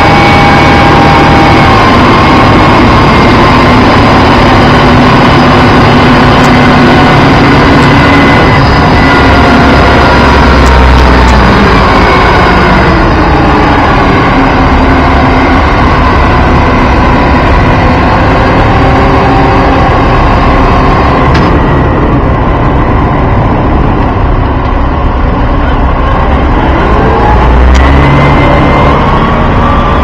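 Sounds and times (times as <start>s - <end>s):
heavy engine running: 0.0s - 30.0s.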